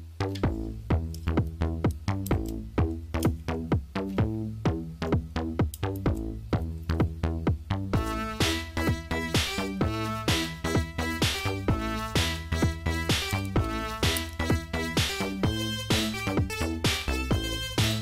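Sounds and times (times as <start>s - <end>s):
background music with quick beat: 0.0s - 18.0s.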